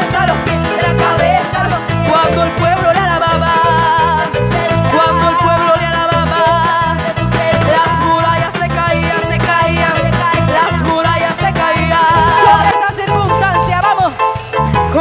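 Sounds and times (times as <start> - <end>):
women singing into microphones: 0.0 - 13.0
drums: 0.0 - 15.0
keyboard: 0.0 - 15.0.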